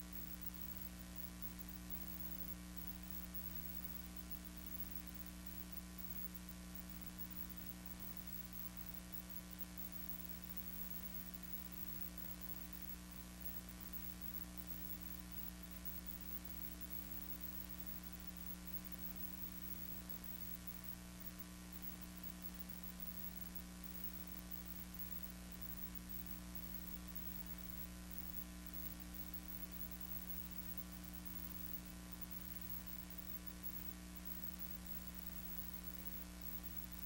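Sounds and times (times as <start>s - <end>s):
electrical hum and hiss: 0.0s - 37.0s.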